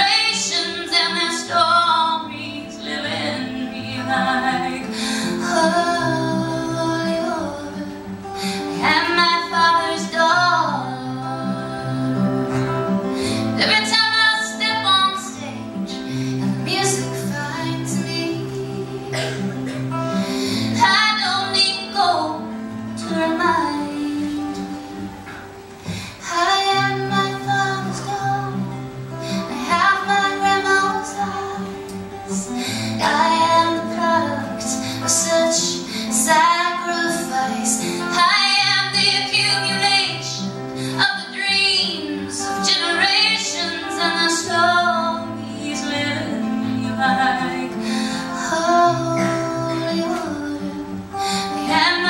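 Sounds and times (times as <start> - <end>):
woman singing: 0.0 - 25.2, 25.9 - 52.0
strummed acoustic guitar: 0.0 - 52.0.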